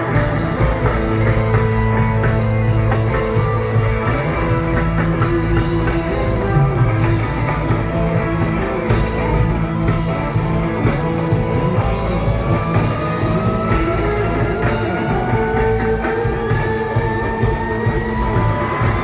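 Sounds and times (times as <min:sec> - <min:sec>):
live rock music: 0:00.0 - 0:19.0.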